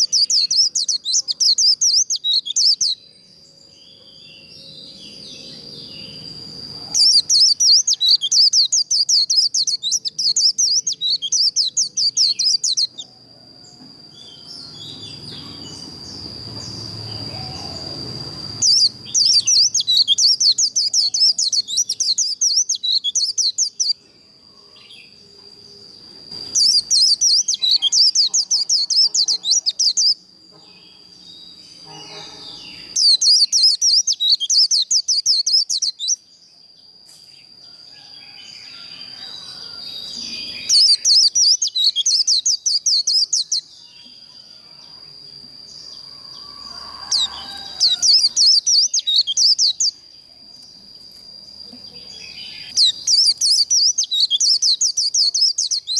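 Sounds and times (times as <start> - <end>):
bird warbling song: 0.0 - 13.1, 14.1 - 24.0, 26.3 - 36.2, 38.2 - 44.3, 45.6 - 55.9
thin steady high tone: 0.0 - 55.9.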